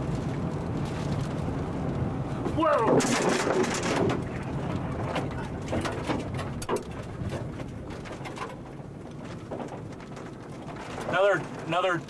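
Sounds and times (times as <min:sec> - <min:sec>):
strong wind rumbling and buffeting: 0:00.0 - 0:12.0.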